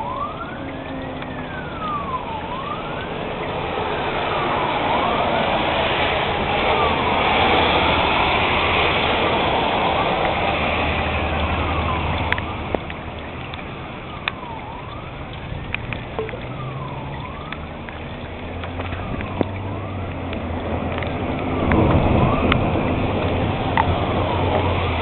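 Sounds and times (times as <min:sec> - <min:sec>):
distant warning siren wailing: 0:00.0 - 0:25.0.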